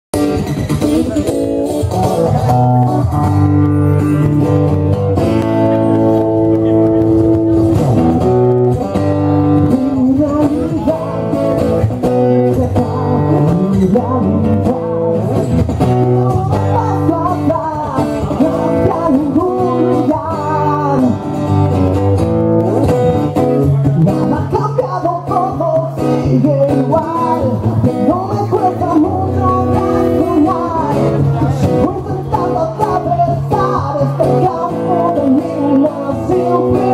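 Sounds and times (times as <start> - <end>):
person singing: 0.2 - 21.5, 23.4 - 36.9
acoustic guitar through speakers: 0.2 - 36.9.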